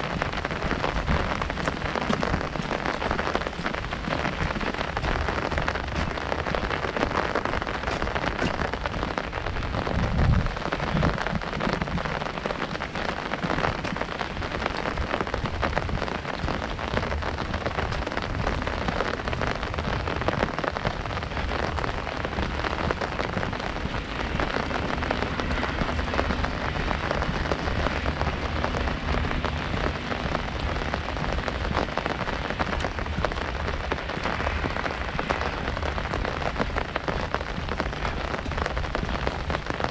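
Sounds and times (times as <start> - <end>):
rain drumming on umbrella: 0.0 - 39.9.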